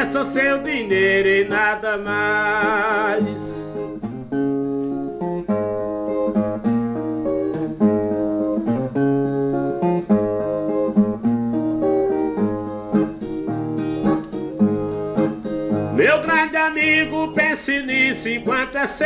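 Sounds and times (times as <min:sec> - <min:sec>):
plucked steel-string guitar melody: 0:00.0 - 0:19.0.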